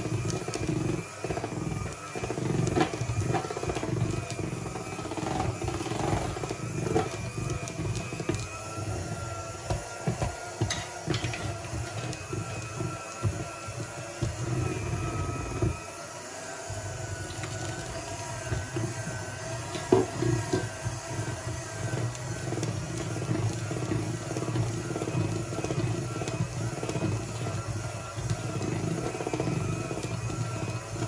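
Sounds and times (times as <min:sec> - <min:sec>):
electric hand mixer whine: 0:00.0 - 0:31.0.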